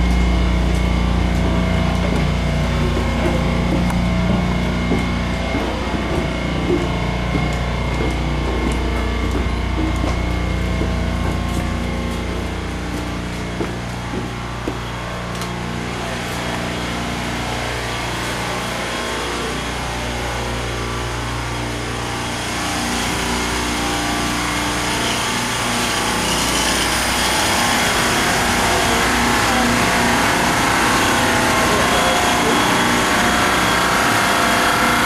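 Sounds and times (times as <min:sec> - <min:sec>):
building machinery humming: 0:00.0 - 0:35.0.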